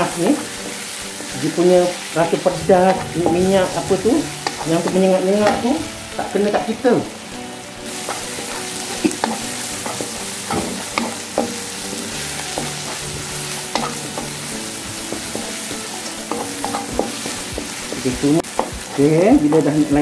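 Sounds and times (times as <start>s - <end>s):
spice paste sizzling in oil: 0.0s - 20.0s.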